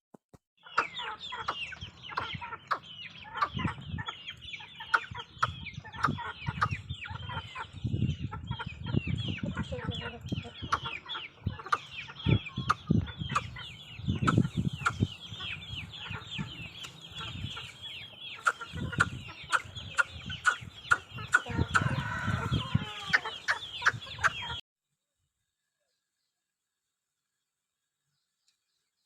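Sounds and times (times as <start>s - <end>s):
chickens clucking: 0.6s - 24.6s
high falling chick peeps: 0.6s - 24.6s.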